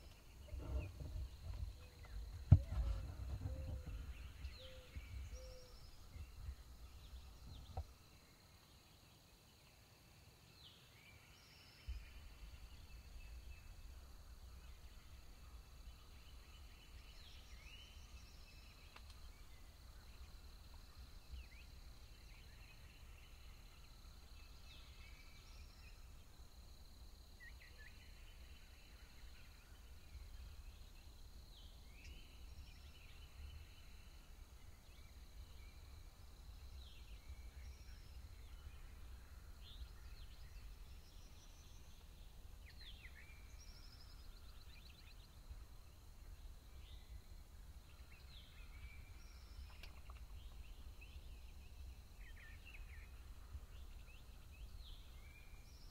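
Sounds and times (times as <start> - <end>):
songbird singing with trill: 0.0 - 9.8, 14.6 - 26.2, 27.4 - 47.2, 47.9 - 55.9.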